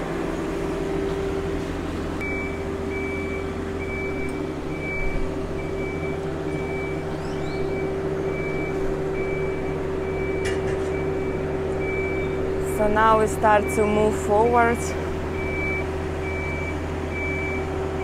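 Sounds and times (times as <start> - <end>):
diesel engine running: 0.0 - 18.0
vehicle warning beeper: 2.2 - 18.0.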